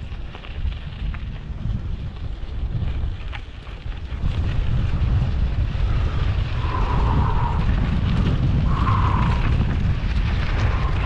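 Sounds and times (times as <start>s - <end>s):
bike ride rumble: 0.0s - 11.0s
wind buffeting microphone: 0.0s - 11.0s.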